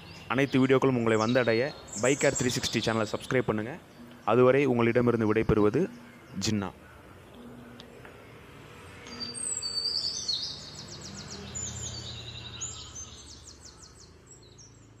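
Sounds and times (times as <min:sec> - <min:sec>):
birds chirping and trilling: 0:00.0 - 0:15.0
outdoor background noise: 0:00.0 - 0:15.0.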